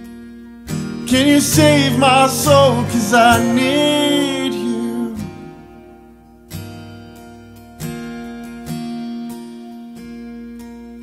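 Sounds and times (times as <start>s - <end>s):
acoustic guitar chord strummed: 0.0s - 11.0s.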